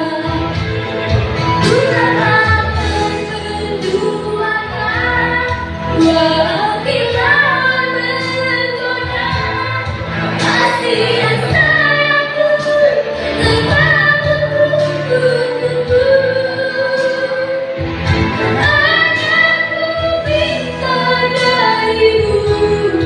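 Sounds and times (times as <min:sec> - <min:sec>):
band accompaniment: 0:00.0 - 0:23.0
woman singing pop ballad: 0:00.0 - 0:23.0.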